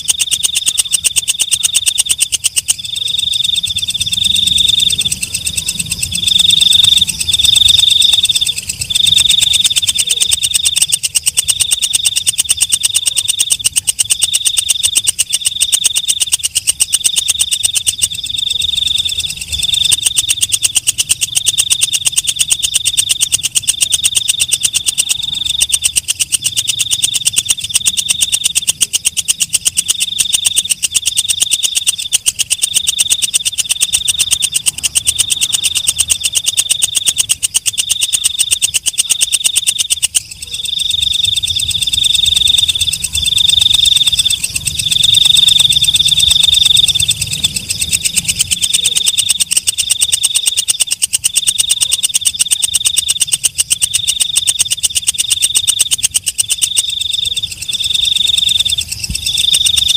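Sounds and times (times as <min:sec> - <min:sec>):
katydid ticking buzz: 0:00.0 - 0:59.9.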